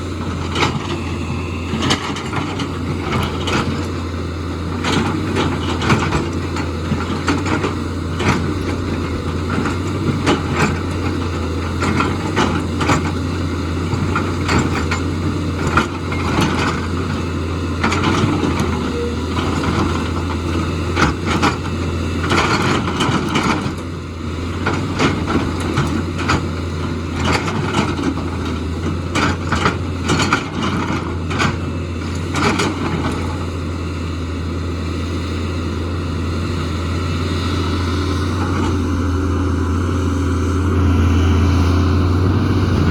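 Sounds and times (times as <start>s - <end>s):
excavator engine running: 0.0s - 42.9s.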